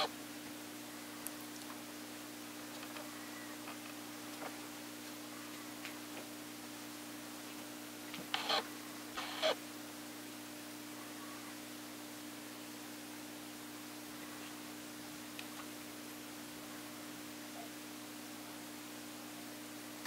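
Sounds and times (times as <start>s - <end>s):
low hum with hiss: 0.0s - 20.0s.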